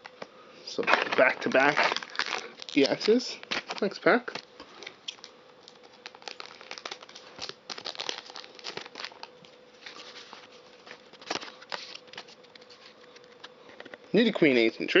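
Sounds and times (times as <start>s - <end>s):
cards rustling: 0.0s - 14.6s
foil wrapper tearing and crinkling: 0.8s - 14.0s.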